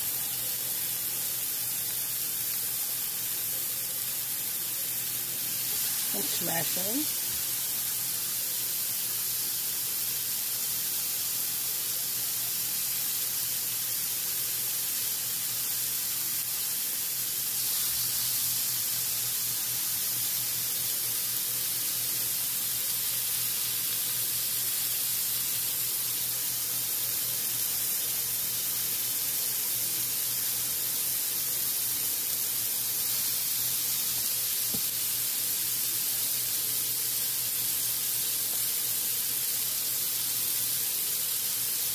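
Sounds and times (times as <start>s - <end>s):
patties sizzling on a griddle: 0.0s - 41.9s.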